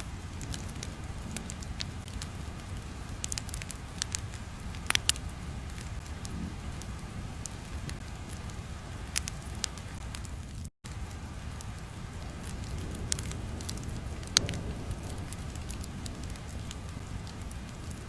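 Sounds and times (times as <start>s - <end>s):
fire crackles and pops: 0.0s - 18.0s
low steady rumble: 0.0s - 18.0s.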